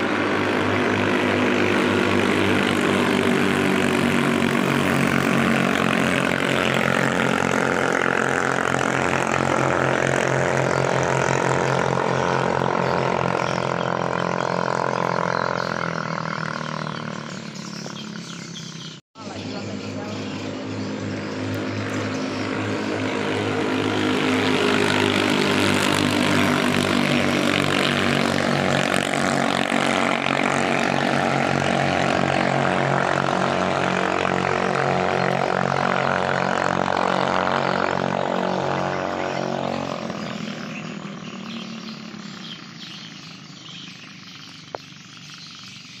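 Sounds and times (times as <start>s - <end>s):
boat engine running hard: 0.0s - 46.0s.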